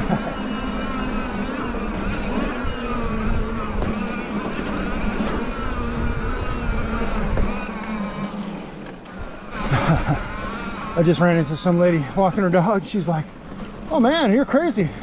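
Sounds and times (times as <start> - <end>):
electric bike motor whining: 0.0 - 15.0
low wind rumble: 0.0 - 15.0.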